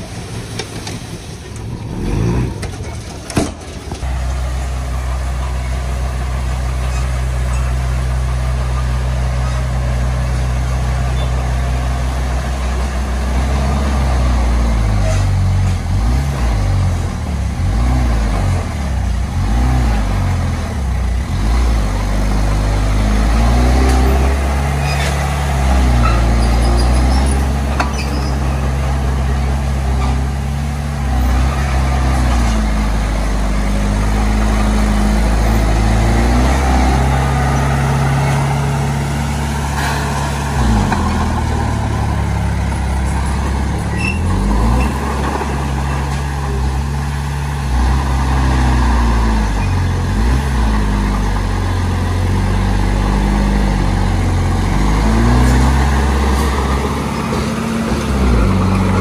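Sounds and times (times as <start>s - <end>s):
heavy diesel engine under load: 0.0s - 59.0s.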